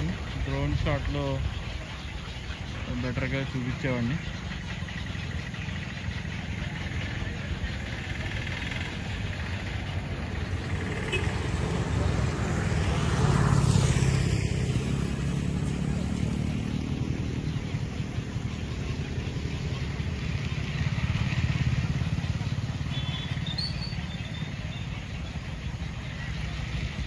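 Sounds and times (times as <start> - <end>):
motor vehicle passing: 0.0 - 27.0.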